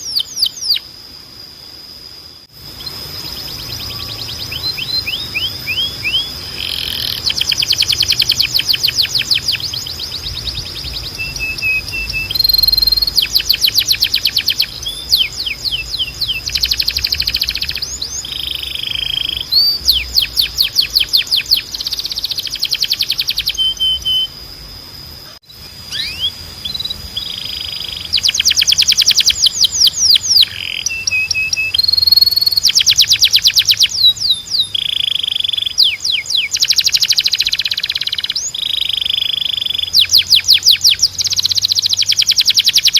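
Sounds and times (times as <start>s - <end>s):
canary singing trills: 0.0s - 0.9s, 2.3s - 24.4s, 25.2s - 42.9s.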